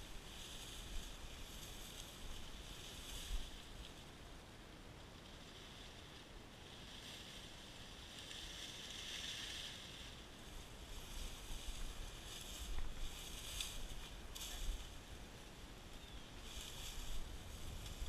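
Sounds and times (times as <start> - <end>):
dry grass rustling: 0.0 - 18.0.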